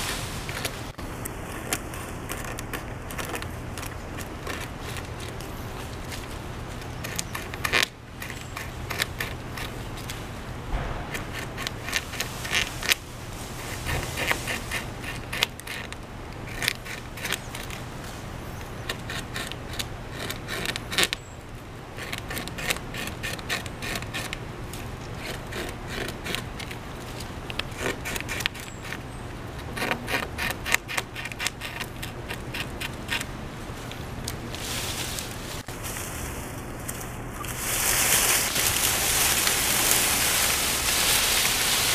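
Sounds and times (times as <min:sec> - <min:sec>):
beaver gnawing wood: 0:00.0 - 0:35.8.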